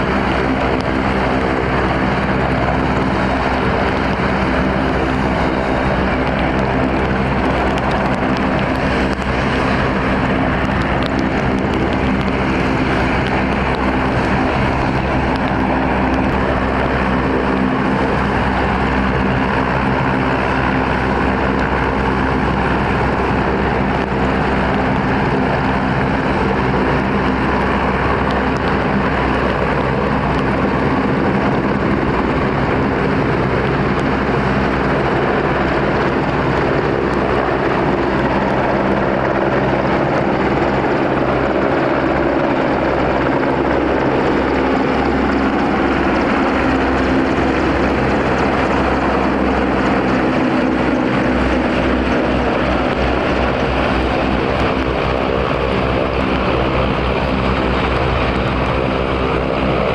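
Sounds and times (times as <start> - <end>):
helicopter engine and rotor noise: 0.0 - 59.9.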